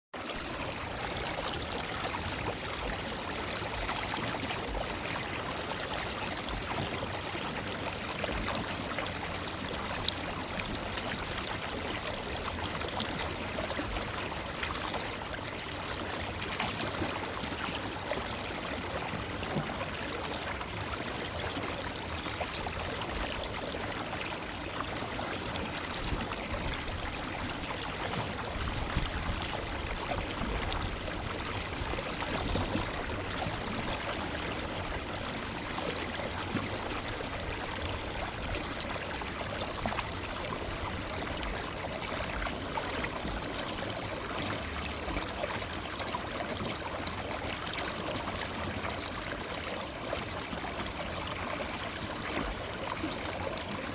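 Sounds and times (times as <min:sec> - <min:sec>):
stream water rushing over rocks: 0:00.2 - 0:53.9.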